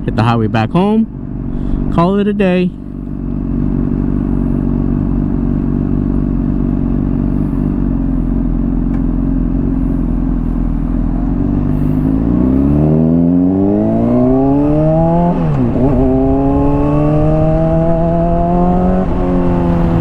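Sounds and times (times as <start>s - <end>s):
motorcycle engine revving: 0.8s - 20.0s.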